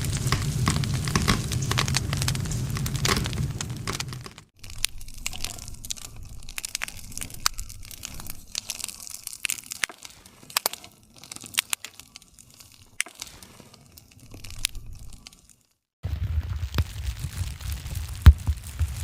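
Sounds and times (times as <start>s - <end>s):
campfire wood crackling: 0.0s - 19.0s.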